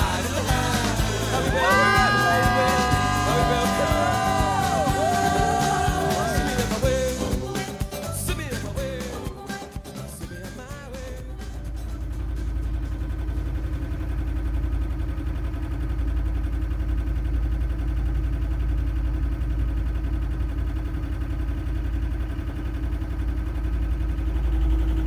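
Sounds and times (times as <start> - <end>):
boat engine running: 0.0 - 18.7, 23.4 - 25.0.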